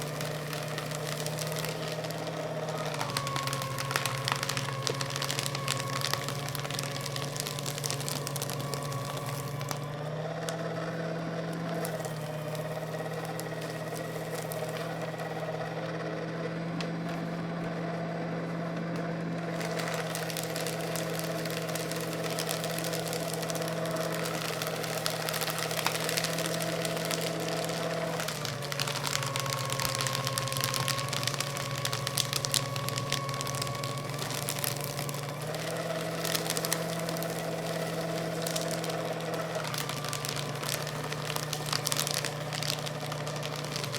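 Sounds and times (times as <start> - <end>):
paper crackling as it is cut: 0.0 - 16.0, 19.4 - 43.9
paper shredder motor hum: 0.0 - 43.9.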